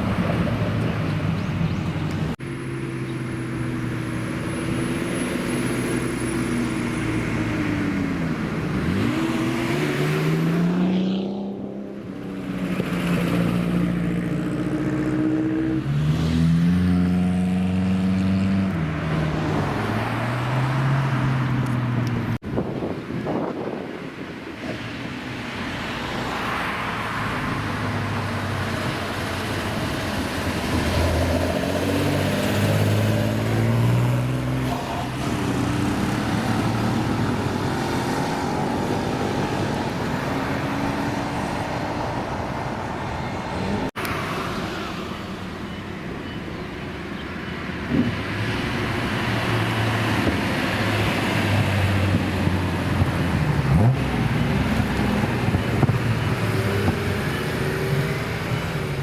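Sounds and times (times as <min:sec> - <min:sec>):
steady traffic noise: 0:00.0 - 0:59.0
old car engines revving past: 0:02.8 - 0:22.4, 0:26.2 - 0:45.0, 0:47.8 - 0:59.0.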